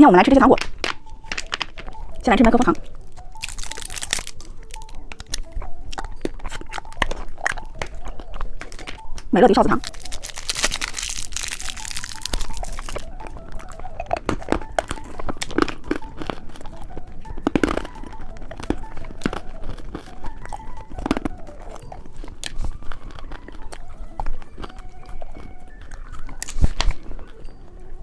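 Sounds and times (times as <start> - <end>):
hard candy crunched and chewed: 0.0 - 28.0
candy wrapper crinkling: 0.6 - 27.9.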